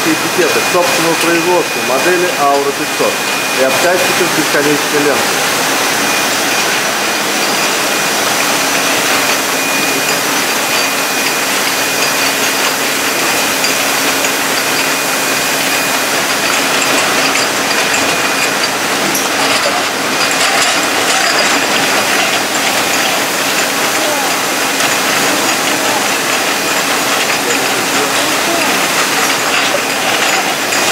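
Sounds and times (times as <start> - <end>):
bottling machinery running: 0.0 - 30.9
high whine: 0.0 - 30.9.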